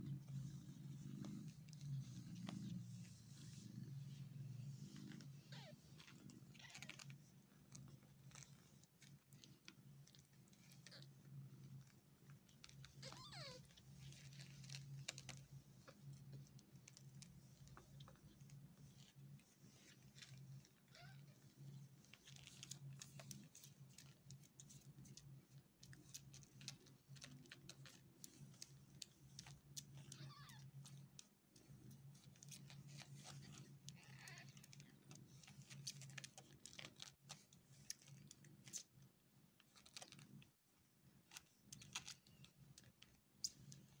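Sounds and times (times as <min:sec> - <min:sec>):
soft suckling clicks: 0:04.2 - 0:44.0.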